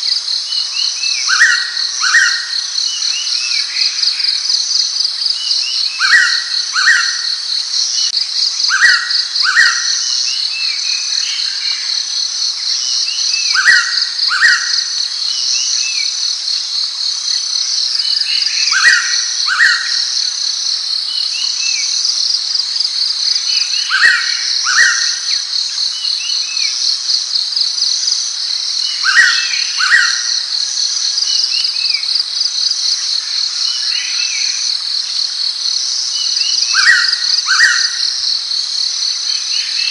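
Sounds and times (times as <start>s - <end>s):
high insect chorus: 0.0s - 39.9s.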